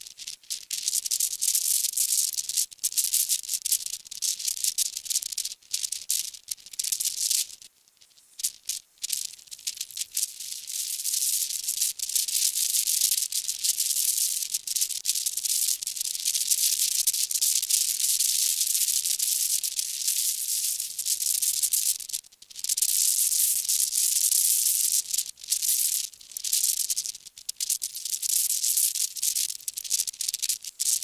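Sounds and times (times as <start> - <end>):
crackly high-pitched hiss: 0.0 - 31.0.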